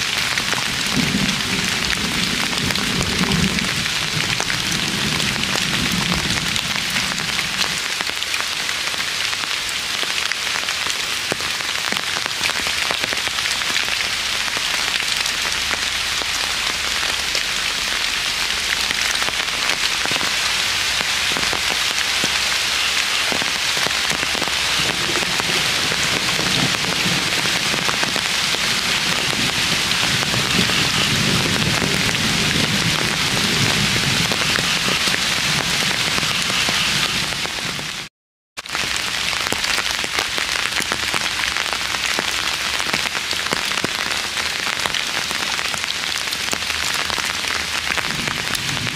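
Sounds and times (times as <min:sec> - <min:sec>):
drizzling rain: 0:00.0 - 0:48.9.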